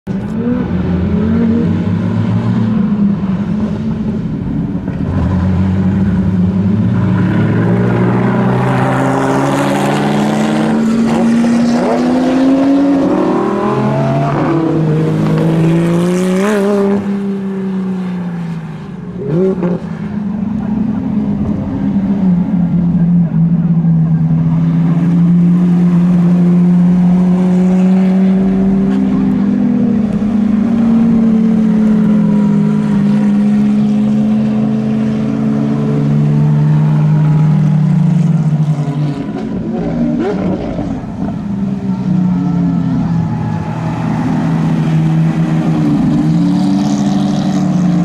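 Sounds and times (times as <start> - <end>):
sports car accelerating through gears: 0.1 - 42.7, 43.7 - 48.0.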